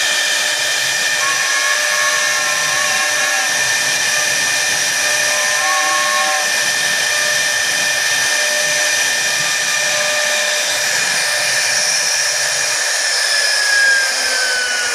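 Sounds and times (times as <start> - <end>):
cutter hissing in wood: 0.0 - 14.9
router spindle whine: 0.0 - 14.9.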